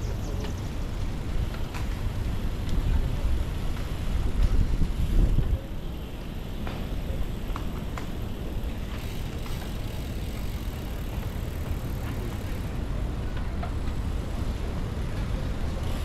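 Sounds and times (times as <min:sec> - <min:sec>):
bicycle tyres on road: 0:00.0 - 0:16.0
wind rumble on microphone: 0:00.0 - 0:16.0.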